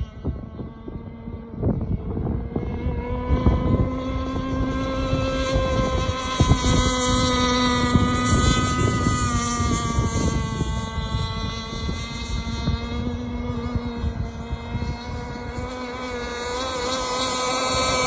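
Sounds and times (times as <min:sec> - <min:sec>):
high-pitched boat engine whine: 0:00.0 - 0:18.0
wind rumble on microphone: 0:00.0 - 0:18.0.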